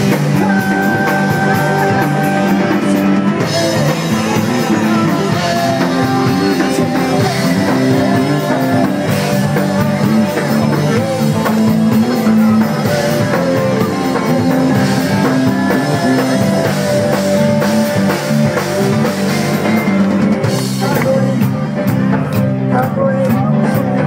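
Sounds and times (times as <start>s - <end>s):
live rock band: 0.0s - 24.0s.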